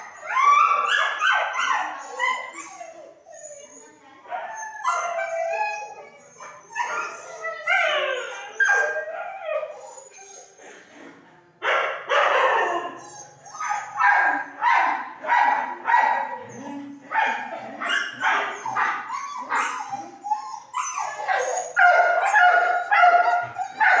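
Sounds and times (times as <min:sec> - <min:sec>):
dogs whining: 0:00.0 - 0:10.6, 0:12.7 - 0:14.0, 0:16.3 - 0:24.0
dogs barking and yelping: 0:00.0 - 0:10.8, 0:11.7 - 0:24.0.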